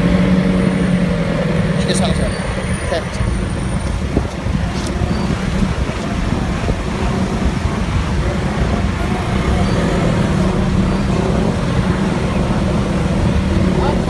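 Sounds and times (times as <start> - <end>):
road and traffic noise: 0.0 - 14.0
vehicle engine running: 0.0 - 14.0.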